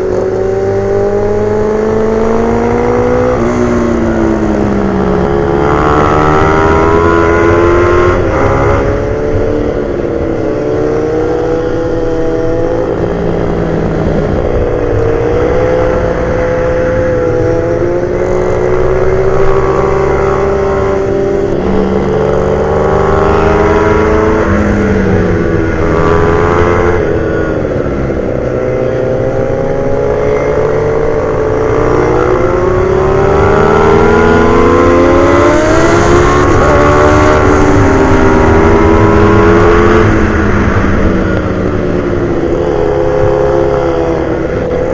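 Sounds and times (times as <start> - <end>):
pit bike engine racing: 0.0 - 44.9.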